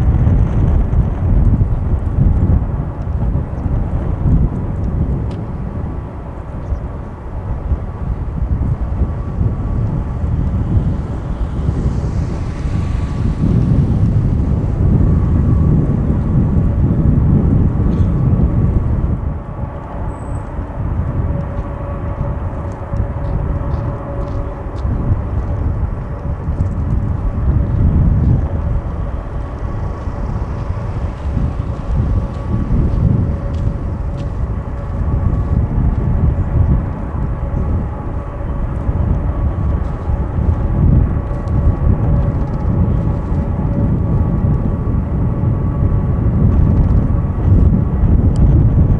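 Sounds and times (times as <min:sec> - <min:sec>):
wind buffeting microphone: 0:00.0 - 0:48.9
jet engines whining: 0:00.1 - 0:48.9.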